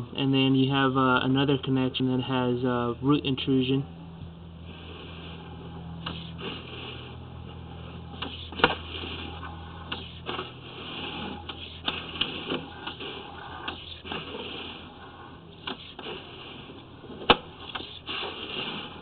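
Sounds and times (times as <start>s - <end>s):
camera rig humming: 2.8s - 19.0s.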